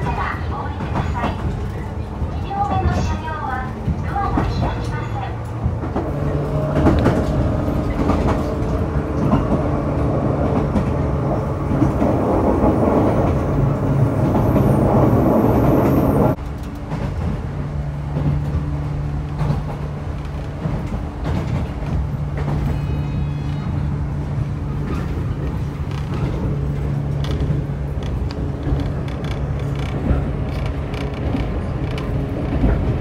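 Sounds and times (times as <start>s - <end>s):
train running gear rumbling: 0.0s - 33.0s.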